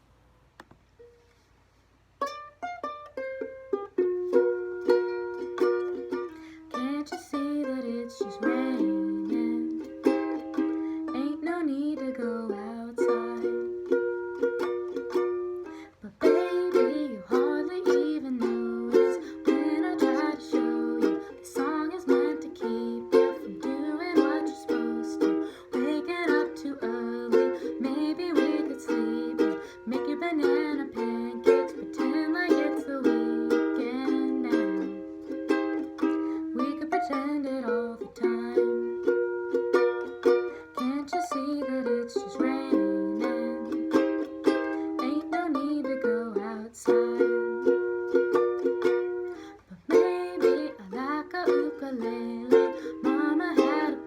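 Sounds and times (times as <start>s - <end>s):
ukulele playing gentle song: 0.9s - 54.0s.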